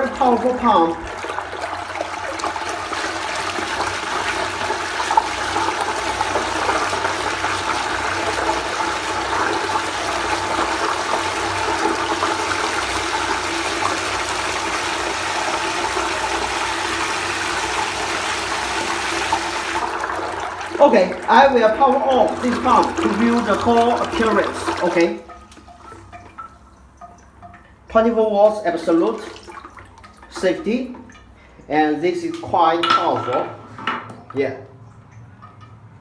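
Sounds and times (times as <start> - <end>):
water rushing: 0.0 - 32.8
water pump running: 0.0 - 36.0.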